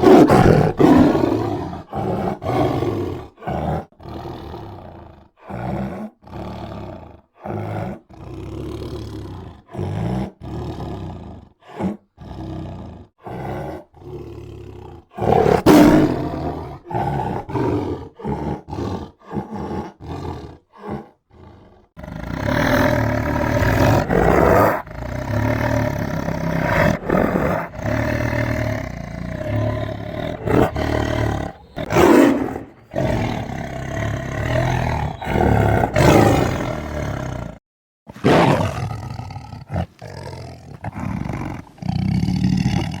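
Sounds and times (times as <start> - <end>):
tiger roaring: 0.0 - 43.0.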